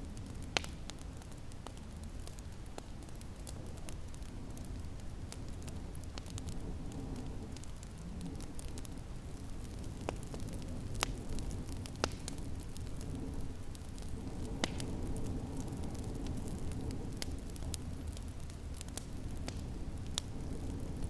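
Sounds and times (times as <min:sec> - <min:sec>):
low rumble of wind: 0:00.0 - 0:21.0
wood fire crackling: 0:00.0 - 0:21.0.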